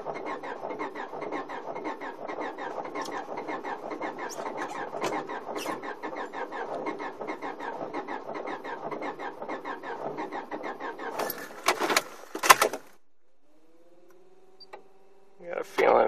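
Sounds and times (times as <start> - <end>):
loud clatters and knocks: 0.0 - 12.9
car starter cranking engine: 0.0 - 13.0.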